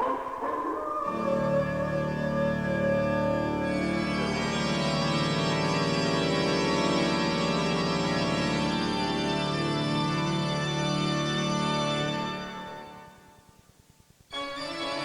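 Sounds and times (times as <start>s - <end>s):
organ playing held chords: 0.0s - 13.2s.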